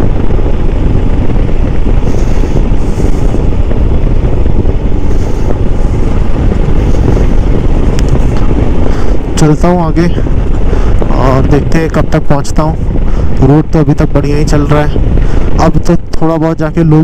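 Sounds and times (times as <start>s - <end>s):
motorcycle engine and road noise: 0.0s - 17.0s
wind buffeting microphone: 0.0s - 17.0s.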